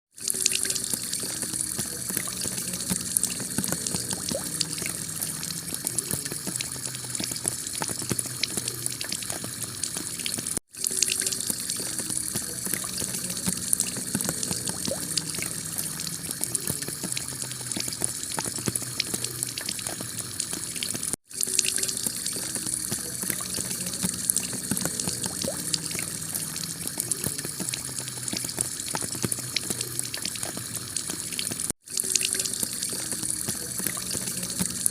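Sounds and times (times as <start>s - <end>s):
rushing water: 0.2s - 34.9s.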